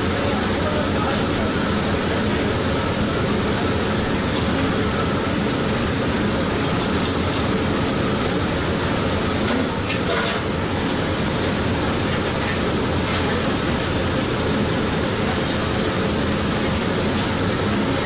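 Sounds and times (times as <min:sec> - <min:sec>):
oil sizzling while deep-frying: 0:01.2 - 0:17.4.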